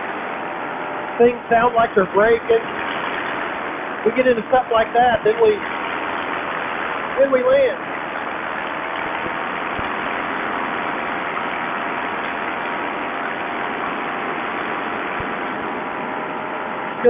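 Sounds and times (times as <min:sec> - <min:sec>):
paramotor engine drone: 0:00.0 - 0:17.0.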